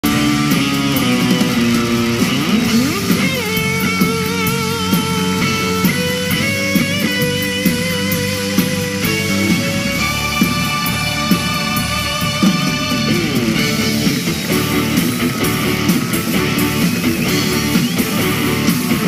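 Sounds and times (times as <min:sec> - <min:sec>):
instrumental rock music: 0:00.0 - 0:19.0.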